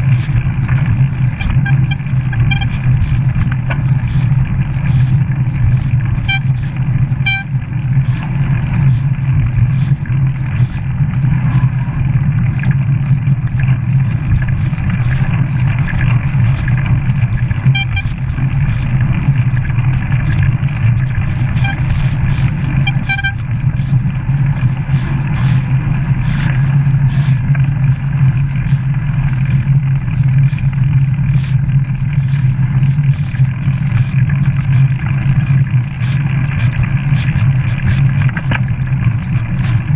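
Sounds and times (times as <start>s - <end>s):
bike clicks and rattles: 0.0s - 39.9s
wind and tyres rumbling: 0.0s - 39.9s.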